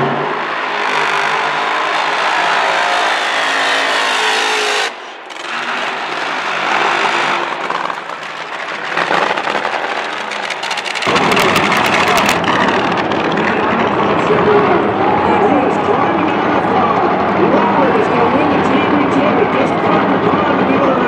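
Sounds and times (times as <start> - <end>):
harsh broad engine noise: 0.0 - 21.0
supercharged engines at full throttle: 0.0 - 21.0.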